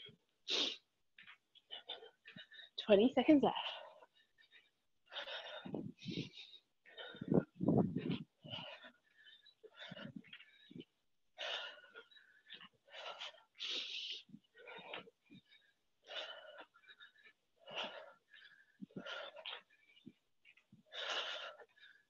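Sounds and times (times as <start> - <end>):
woman breathing hard: 3.5 - 22.0.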